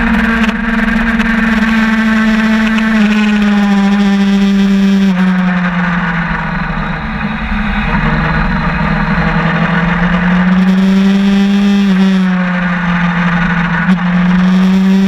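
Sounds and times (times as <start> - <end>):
motorcycle engine revving: 0.0 - 15.0
wind noise: 0.0 - 15.0.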